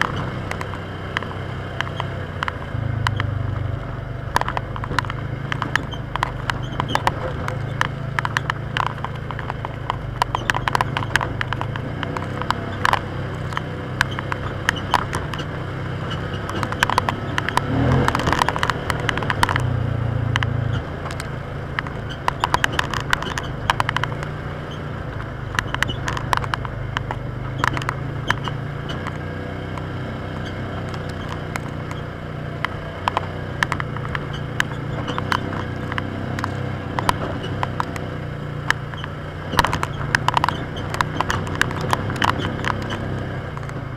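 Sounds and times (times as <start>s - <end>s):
rattles and clicks over rough ground: 0.0s - 43.9s
vehicle engine droning: 0.0s - 43.9s.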